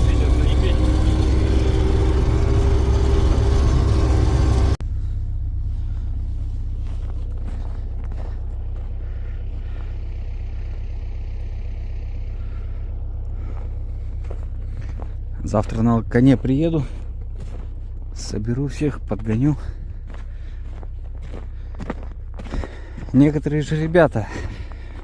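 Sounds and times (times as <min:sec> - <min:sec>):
heavy vehicle engine drone: 0:00.0 - 0:25.0
low rumble: 0:00.0 - 0:25.0.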